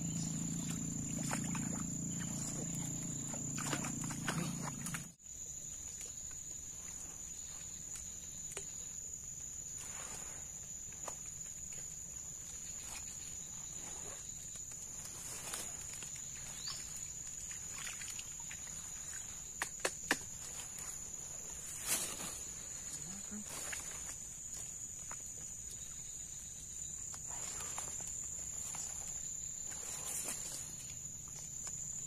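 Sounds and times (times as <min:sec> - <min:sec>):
insect trilling: 0:00.0 - 0:32.0.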